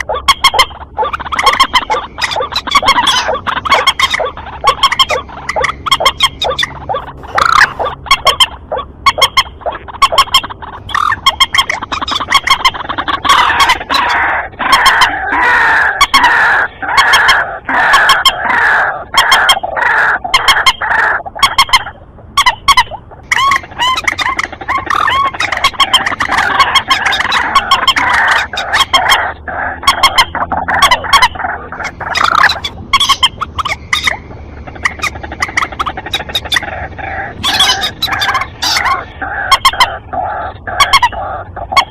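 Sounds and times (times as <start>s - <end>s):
waterbird calls: 0.0s - 41.9s.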